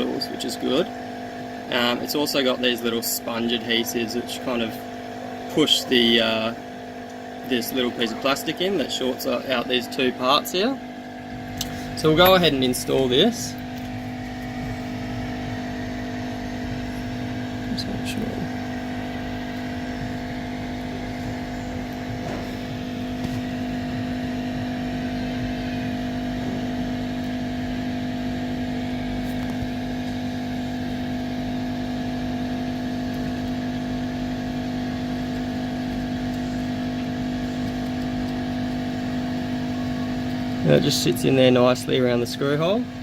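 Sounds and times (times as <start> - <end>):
steady machine hum: 0.0 - 43.0.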